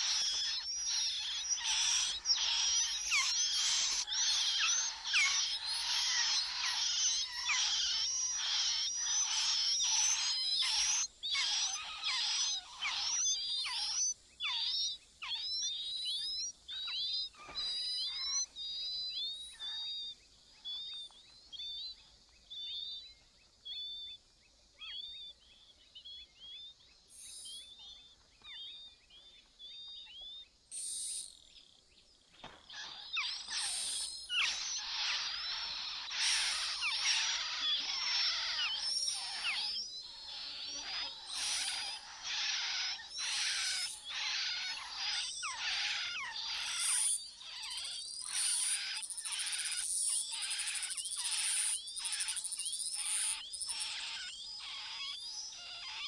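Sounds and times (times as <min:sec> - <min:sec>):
nestlings chirping: 0:00.0 - 0:23.1, 0:32.4 - 0:56.0.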